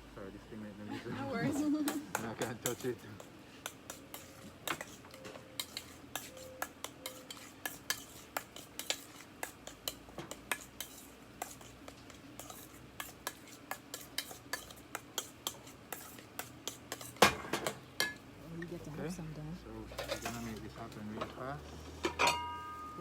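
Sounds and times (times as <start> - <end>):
metal utensils clinking on cookware: 1.6 - 18.2, 19.9 - 21.3, 22.0 - 23.0.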